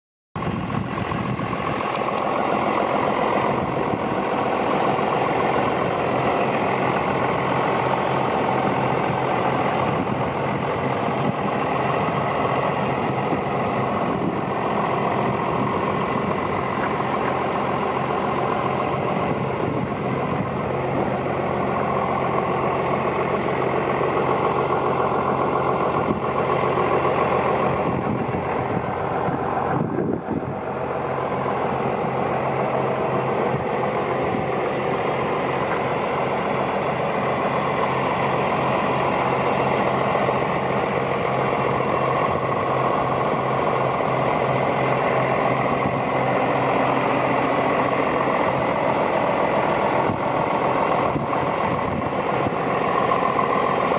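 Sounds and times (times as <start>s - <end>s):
tractor diesel engine idling: 0.4s - 53.9s.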